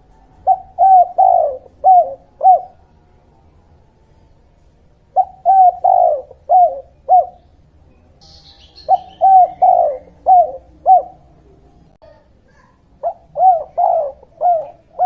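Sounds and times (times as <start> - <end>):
dove cooing: 0.0 - 3.9, 5.1 - 7.5, 8.2 - 11.8, 12.6 - 15.0
faint high bird chirp: 0.0 - 15.0.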